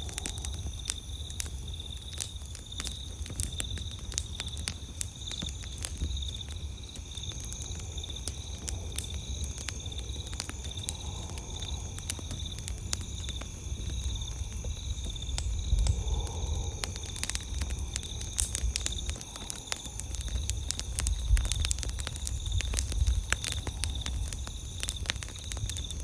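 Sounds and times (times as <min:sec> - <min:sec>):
campfire crackling and popping: 0:00.0 - 0:26.0
insects trilling: 0:00.0 - 0:26.0.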